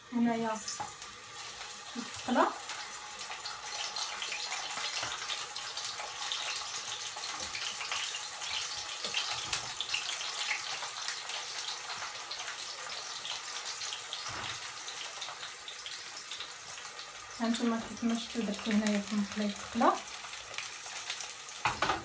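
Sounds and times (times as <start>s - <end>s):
eggplant sizzling in hot oil: 0.0s - 22.0s.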